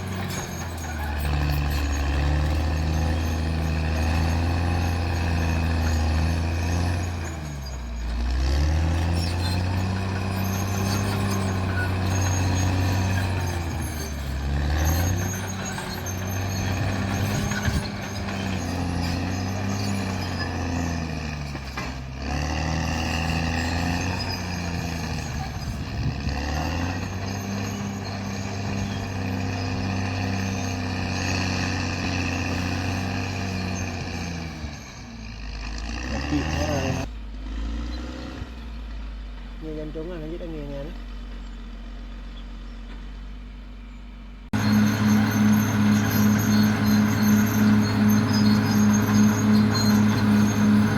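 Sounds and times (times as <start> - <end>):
bulldozer diesel engine under load: 0.0 - 50.9.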